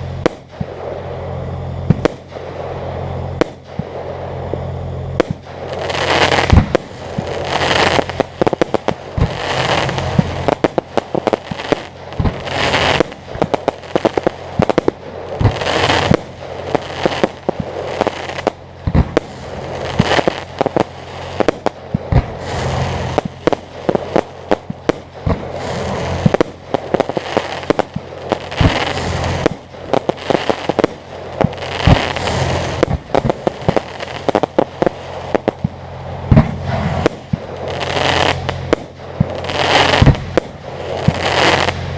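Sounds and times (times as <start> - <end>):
fireworks bangs and crackles: 0.0 - 41.9
low hum: 0.0 - 41.9.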